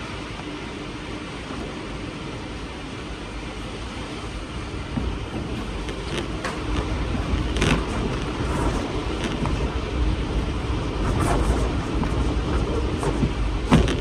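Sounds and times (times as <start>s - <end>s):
storm wind gusting: 0.0s - 14.0s
wind buffeting microphone: 0.5s - 14.0s.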